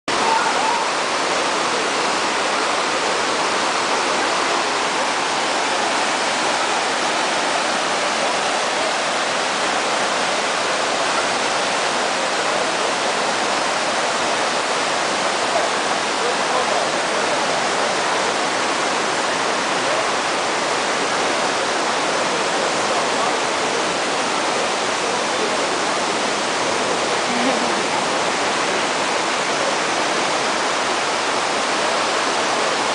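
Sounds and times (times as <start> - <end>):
waterfall rushing over rock: 0.1 - 32.9.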